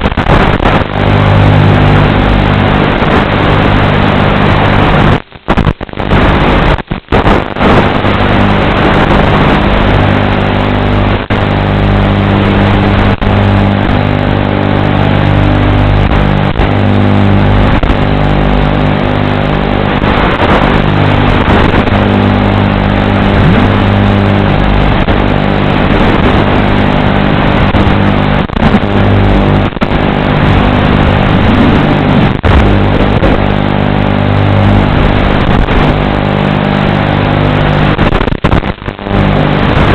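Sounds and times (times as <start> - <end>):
electrical buzz and hiss: 0.0 - 39.9.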